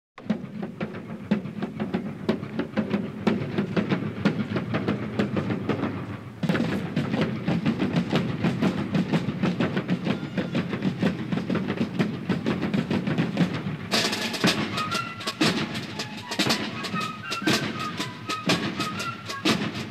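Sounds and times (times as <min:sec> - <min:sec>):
marching snare and bass drums: 0:00.2 - 0:19.9.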